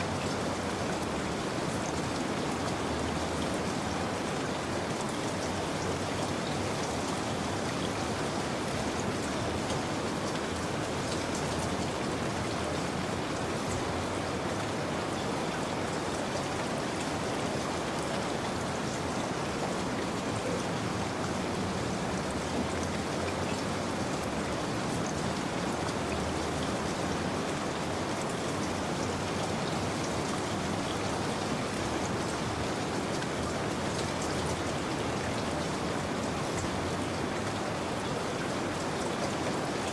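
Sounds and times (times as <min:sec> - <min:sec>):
steady rain hiss: 0:00.0 - 0:39.9
raindrops pattering: 0:00.2 - 0:39.9.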